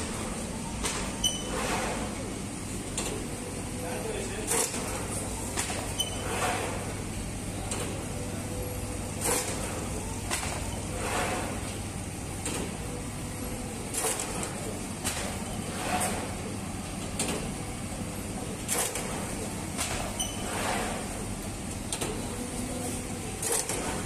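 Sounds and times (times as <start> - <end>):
dough machine humming: 0.0 - 24.0.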